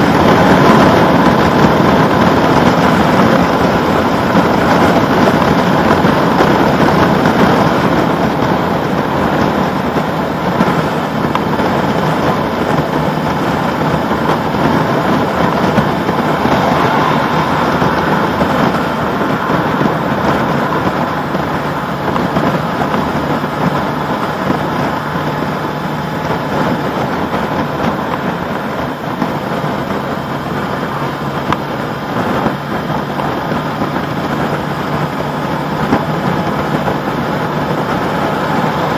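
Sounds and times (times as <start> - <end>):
motorcycle engine cruising: 0.0 - 38.9
wind rush over microphone: 0.0 - 38.9.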